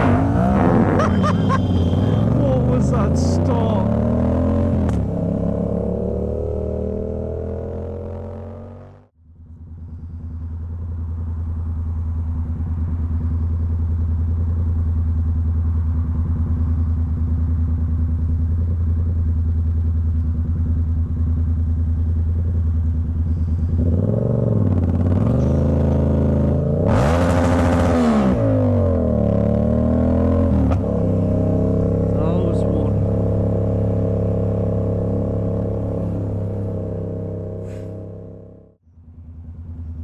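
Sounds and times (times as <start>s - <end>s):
motorcycle engine: 0.0s - 40.0s.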